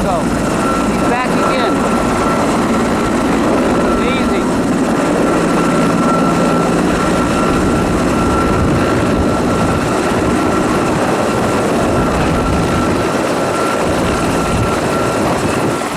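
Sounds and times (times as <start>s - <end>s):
helicopter rotor and turbine noise: 0.0s - 15.9s
thin steady whine: 0.0s - 15.9s.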